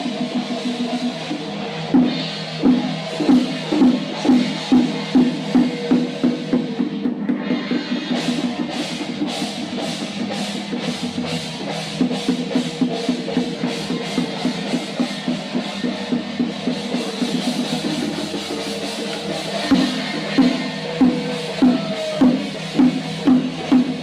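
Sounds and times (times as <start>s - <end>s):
drums beating a steady rhythm: 0.0s - 24.0s.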